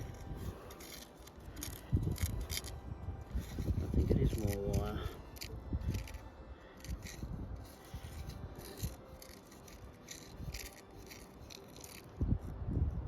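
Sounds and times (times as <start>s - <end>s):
gravelly dirt scraping and rattling: 0.0s - 6.2s, 6.8s - 12.1s.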